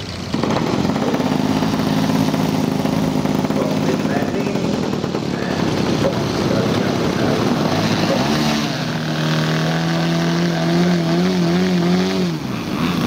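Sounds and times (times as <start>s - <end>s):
model aircraft engine droning: 0.0s - 13.0s.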